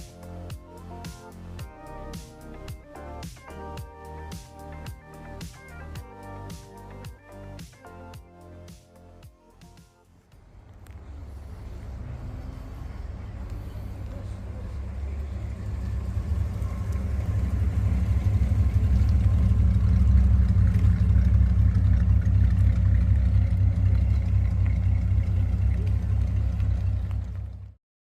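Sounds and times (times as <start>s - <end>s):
car engine rumbling: 0.0s - 9.2s, 10.1s - 27.8s.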